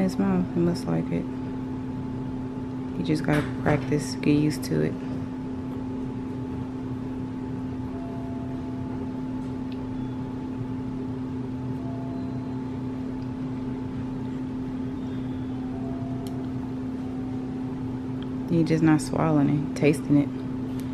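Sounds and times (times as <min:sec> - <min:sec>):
low electrical hum: 0:00.0 - 0:20.9.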